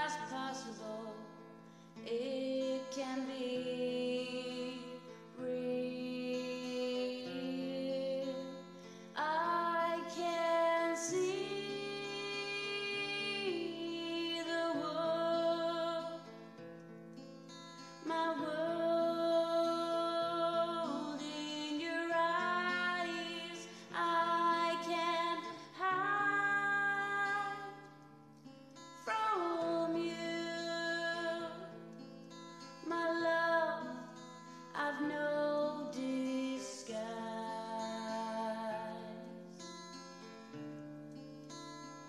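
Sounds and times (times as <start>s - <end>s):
woman singing: 0.0s - 16.5s, 17.9s - 28.0s, 28.8s - 32.0s, 32.6s - 39.8s
acoustic guitar: 0.0s - 42.0s.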